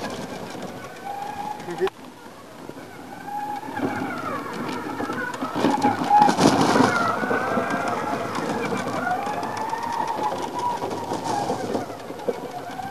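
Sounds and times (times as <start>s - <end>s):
electric motors whining: 0.0s - 12.9s
wheels crunching on gravel: 0.0s - 12.9s.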